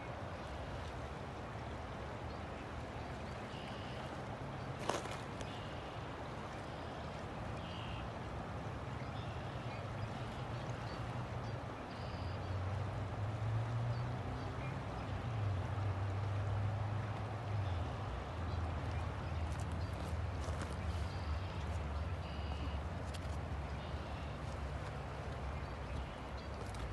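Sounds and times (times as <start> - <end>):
river water flowing: 0.0 - 26.9.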